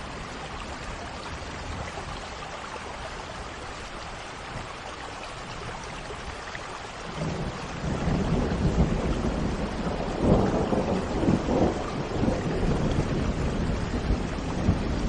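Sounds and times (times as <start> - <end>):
rushing water with deep rumble: 0.0 - 15.0.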